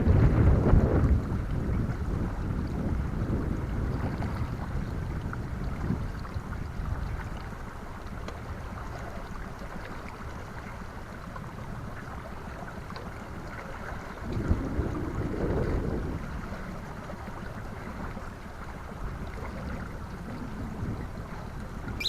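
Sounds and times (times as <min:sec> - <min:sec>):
wind buffeting microphone: 0:00.0 - 0:10.5, 0:11.1 - 0:22.0.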